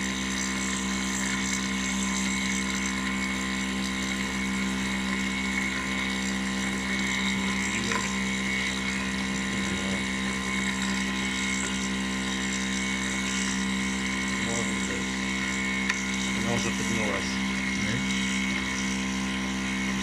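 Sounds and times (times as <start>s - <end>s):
metal milling machine humming: 0.0s - 20.0s.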